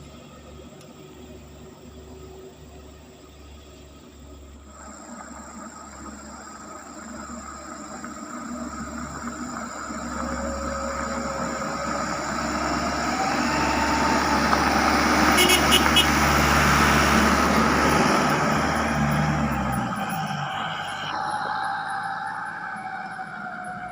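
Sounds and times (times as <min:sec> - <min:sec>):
rising engine whine: 0:00.0 - 0:23.9
truck engine running: 0:00.0 - 0:23.9.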